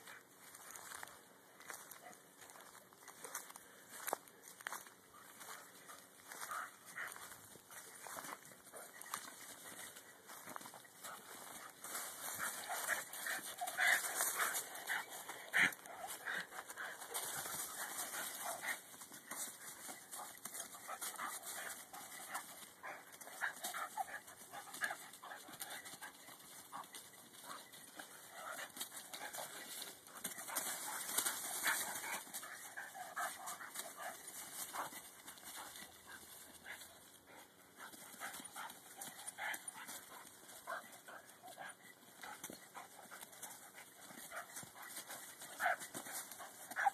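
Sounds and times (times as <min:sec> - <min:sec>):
dogs play-fighting noises: 0:00.0 - 0:46.9
dogs scuffling in dry leaves: 0:00.4 - 0:46.9.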